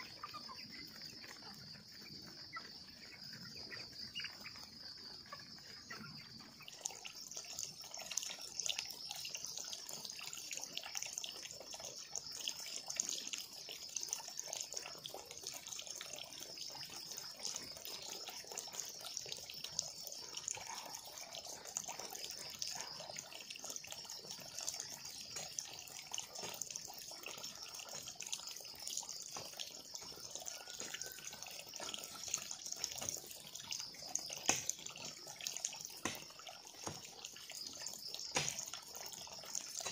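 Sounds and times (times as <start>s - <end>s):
insects chirping: 0.0s - 39.9s
water running and splashing: 0.0s - 39.9s.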